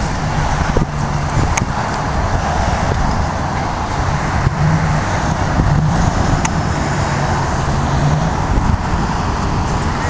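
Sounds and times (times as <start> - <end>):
car engine: 0.0 - 10.0
traffic noise: 0.0 - 10.0.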